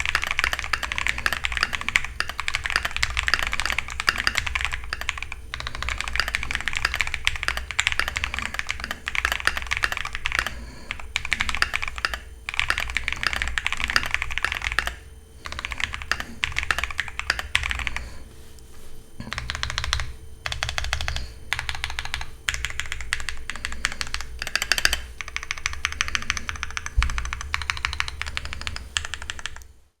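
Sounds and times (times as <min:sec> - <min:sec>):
mechanical keyboard typing: 0:00.0 - 0:18.0, 0:19.3 - 0:29.7.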